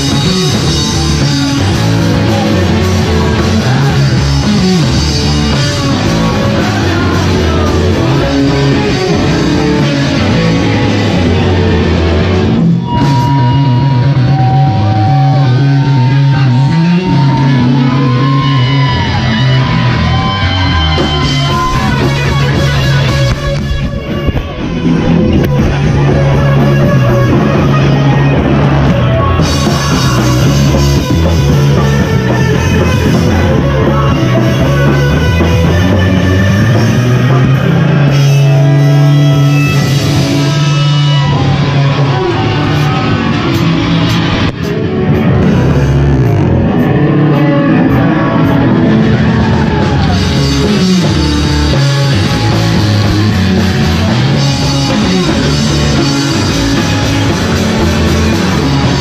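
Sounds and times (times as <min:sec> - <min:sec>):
drum kit: 0:00.0 - 0:59.0
electric guitar: 0:00.0 - 0:59.0.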